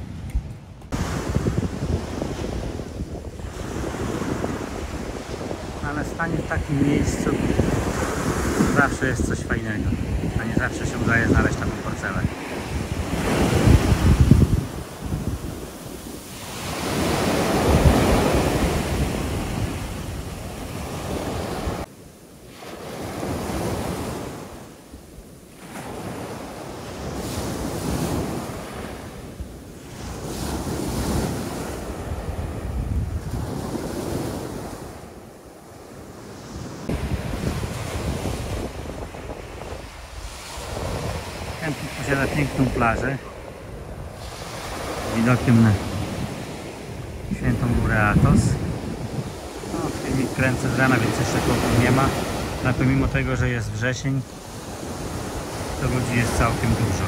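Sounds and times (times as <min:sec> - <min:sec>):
wind buffeting microphone: 0:00.0 - 0:21.9, 0:23.0 - 0:57.0
sea waves washing onto beach: 0:00.9 - 0:57.0.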